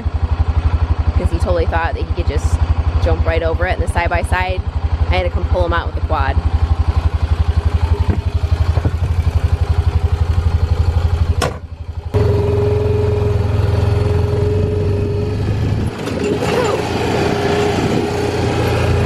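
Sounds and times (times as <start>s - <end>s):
vehicle engine driving: 0.0s - 19.0s.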